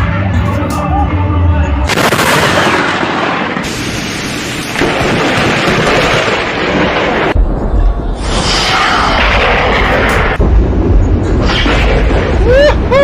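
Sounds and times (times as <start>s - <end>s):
loud thunder crash: 1.9s - 12.6s.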